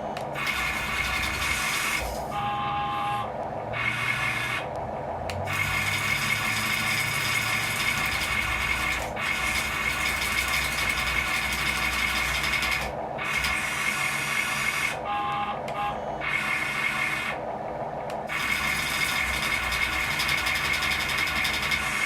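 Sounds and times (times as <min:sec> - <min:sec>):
electric motor and hydraulic pump whining: 0:00.0 - 0:22.0.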